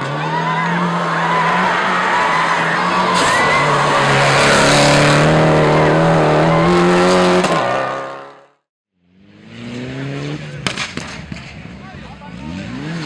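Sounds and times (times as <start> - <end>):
rally car engine high revs: 0.0 - 8.6, 9.2 - 10.6, 12.2 - 13.0.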